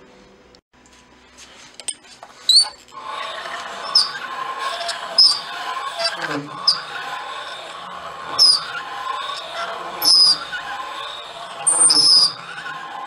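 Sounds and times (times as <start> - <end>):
cutter scraping metal squealing: 2.5 - 13.0.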